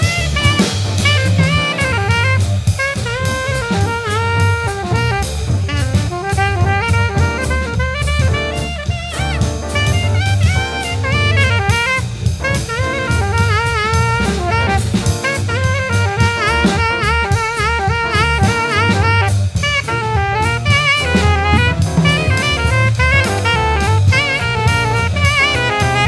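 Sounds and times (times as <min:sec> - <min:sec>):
double bass: 0:00.0 - 0:26.0
drum kit: 0:00.0 - 0:26.0
jazz horn line: 0:00.0 - 0:26.0.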